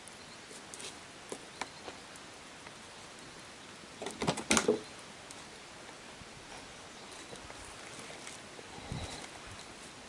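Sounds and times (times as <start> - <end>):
rain falling on shelter: 0.0 - 10.0.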